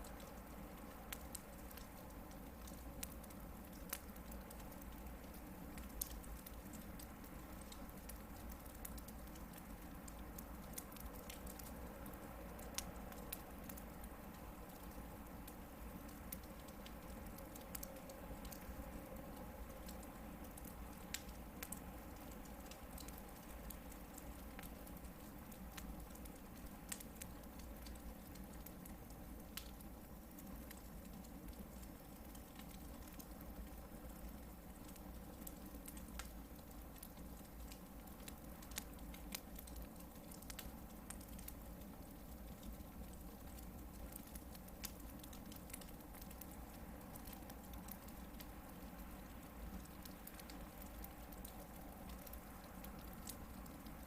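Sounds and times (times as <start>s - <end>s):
campfire low rush: 0.0s - 54.0s
fire crackling and popping: 0.0s - 54.0s.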